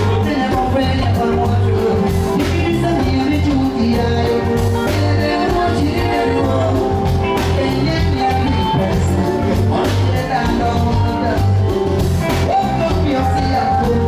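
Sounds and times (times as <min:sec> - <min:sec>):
bass line: 0:00.0 - 0:14.0
person singing: 0:00.0 - 0:14.0.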